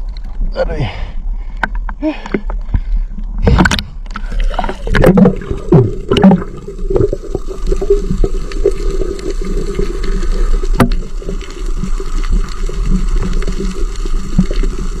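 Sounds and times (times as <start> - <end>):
water sloshing and splashing: 2.3 - 15.0.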